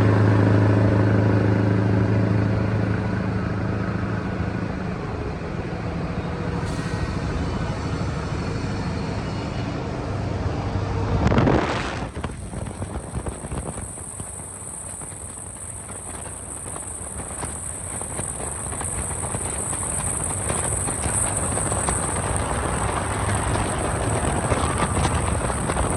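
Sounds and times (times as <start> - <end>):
truck engine through loud exhaust: 0.0 - 25.9.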